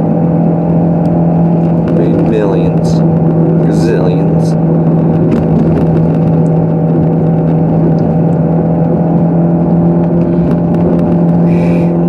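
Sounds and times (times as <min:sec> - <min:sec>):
car engine drone: 0:00.0 - 0:12.0
road noise inside car: 0:00.0 - 0:12.0.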